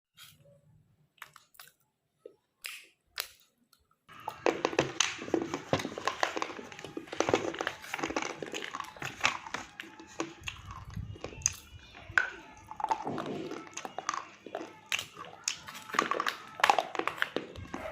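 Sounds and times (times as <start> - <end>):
person chewing crunchy substance: 1.1 - 17.9.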